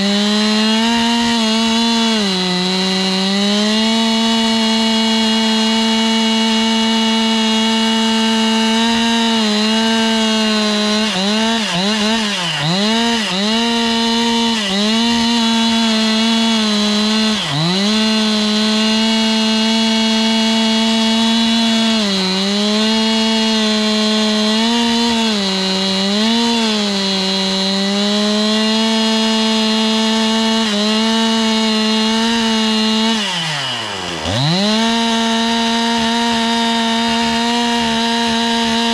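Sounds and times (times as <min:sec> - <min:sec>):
chainsaw milling wood: 0:00.0 - 0:38.9.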